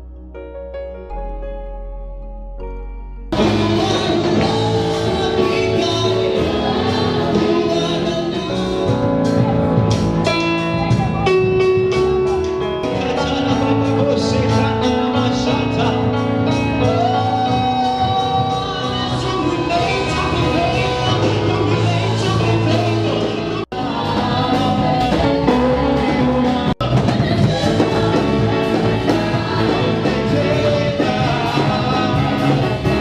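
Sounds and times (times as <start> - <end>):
drum beats: 3.3 - 33.0
gospel singing with band: 3.4 - 33.0.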